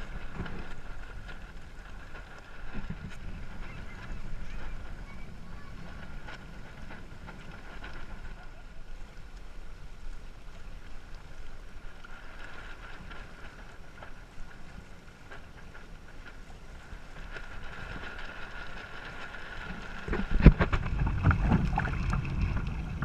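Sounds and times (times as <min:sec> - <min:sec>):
water rushing along hull: 0:00.0 - 0:23.0
wind rumbling on microphone: 0:00.0 - 0:23.0.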